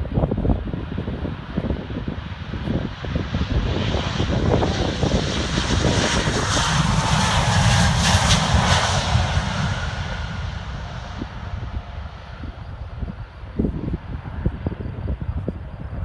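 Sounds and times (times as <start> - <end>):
jet engine roar: 0.0 - 16.0
jet engine whine: 0.0 - 16.0
wind buffeting microphone: 0.0 - 16.0.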